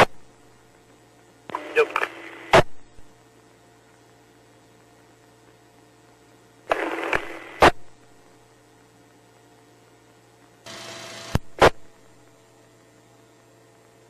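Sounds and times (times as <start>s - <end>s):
radio low hum: 0.0s - 13.5s
radio static hiss: 0.0s - 14.0s.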